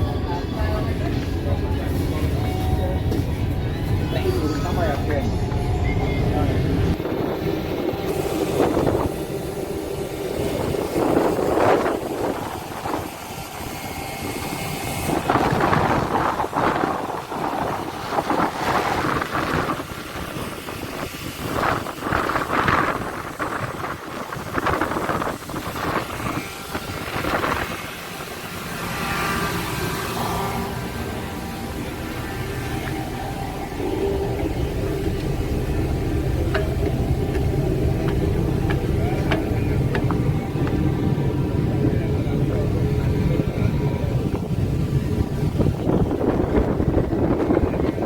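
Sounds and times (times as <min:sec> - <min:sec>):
steady low rumble: 0:00.0 - 0:48.0
wind buffeting microphone: 0:05.2 - 0:29.0, 0:30.8 - 0:48.0.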